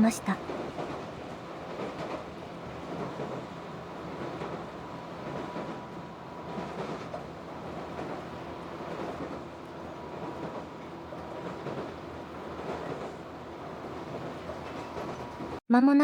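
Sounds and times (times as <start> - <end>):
train wheels rumbling on rail joints: 0.0 - 15.6.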